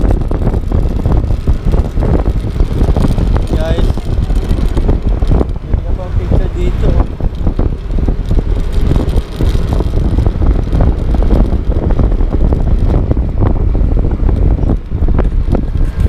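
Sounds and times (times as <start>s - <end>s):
road noise: 0.0s - 16.0s
scooter engine running: 0.0s - 16.0s
wind buffeting microphone: 0.0s - 16.0s.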